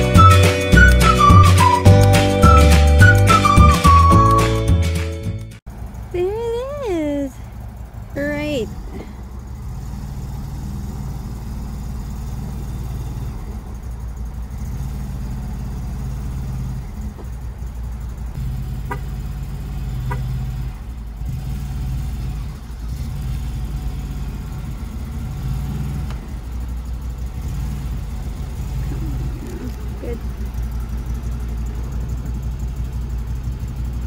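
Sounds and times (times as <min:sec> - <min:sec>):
engine running at low throttle: 0:05.5 - 0:34.0.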